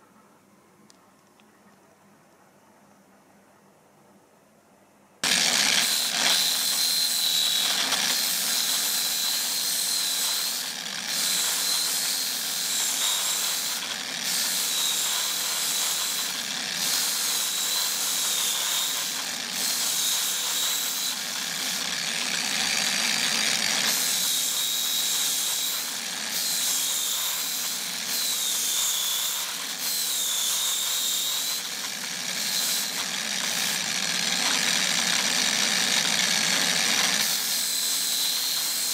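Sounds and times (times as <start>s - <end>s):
angle grinder motor whine: 5.2s - 38.9s
grinding hiss: 5.2s - 38.9s.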